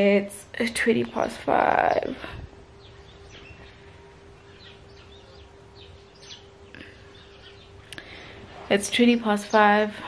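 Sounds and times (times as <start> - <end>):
faint birdsong chirps: 0.0 - 10.0
steady low hum: 0.0 - 10.0.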